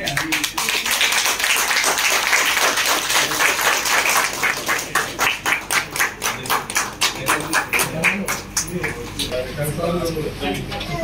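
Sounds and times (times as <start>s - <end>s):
people applauding: 0.0s - 9.3s.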